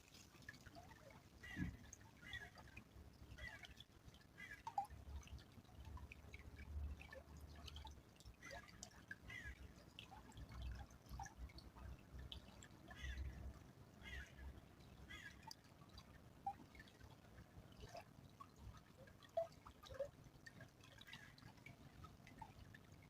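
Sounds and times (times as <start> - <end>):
stream trickling: 0.0 - 23.0
water dripping and splashing: 0.0 - 23.0.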